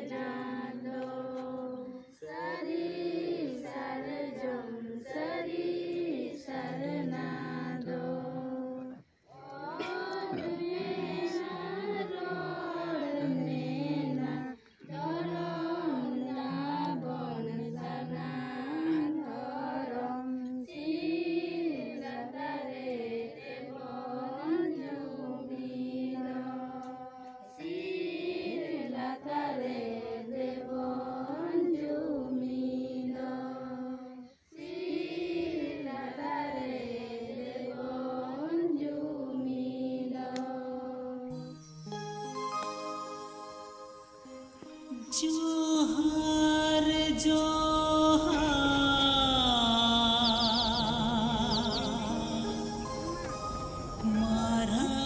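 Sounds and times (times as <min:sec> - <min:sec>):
voices chanting a prayer song: 0:00.0 - 0:41.4, 0:44.7 - 0:55.0.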